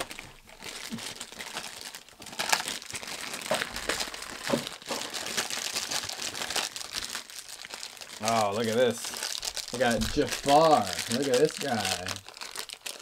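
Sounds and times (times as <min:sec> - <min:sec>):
foil bags crinkling and ripping: 0:00.0 - 0:13.0.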